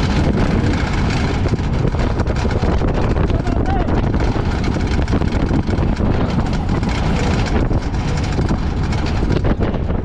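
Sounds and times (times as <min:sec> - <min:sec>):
carts rumbling and clattering: 0:00.0 - 0:10.0
wind on the microphone: 0:00.0 - 0:10.0.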